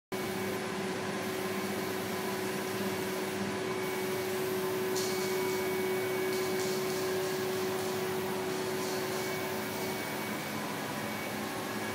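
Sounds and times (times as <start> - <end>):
machine humming and whining: 0.2 - 11.9.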